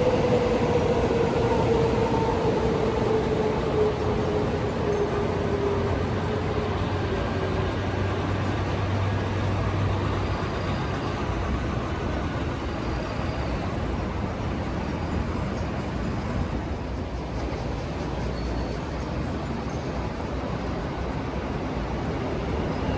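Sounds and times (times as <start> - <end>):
train rumbling past: 0.0 - 22.9.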